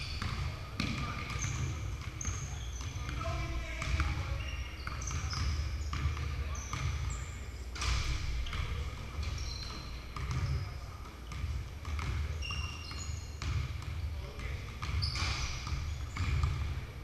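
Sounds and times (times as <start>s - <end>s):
basketballs bouncing on wood floor: 0.0s - 17.0s
sneakers squeaking: 0.0s - 17.0s.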